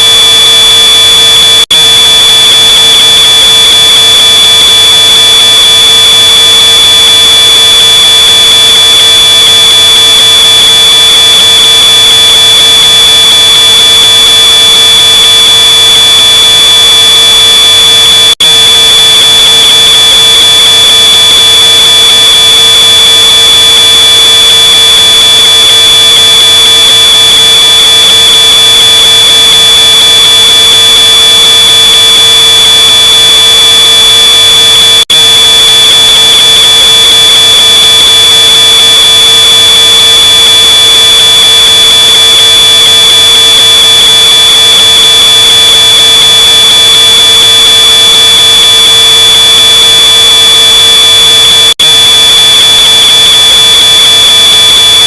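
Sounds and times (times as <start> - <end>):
distorted smoke alarm tone: 0.0 - 55.0.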